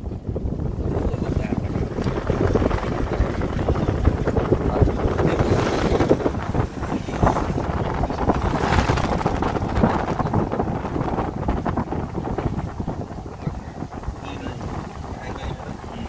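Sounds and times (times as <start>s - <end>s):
vehicle road and engine rumble: 0.0s - 16.0s
wind buffeting microphone: 0.0s - 16.0s.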